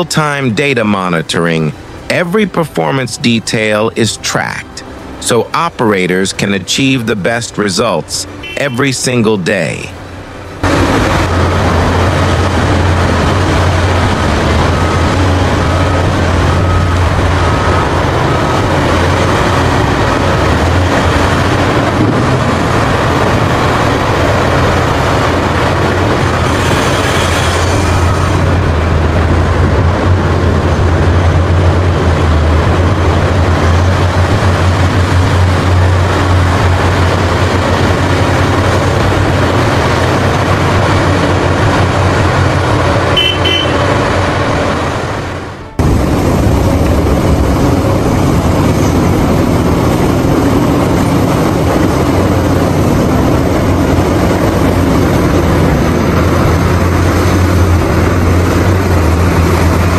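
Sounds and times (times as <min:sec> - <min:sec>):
excavator engine hum: 0:00.0 - 0:59.9.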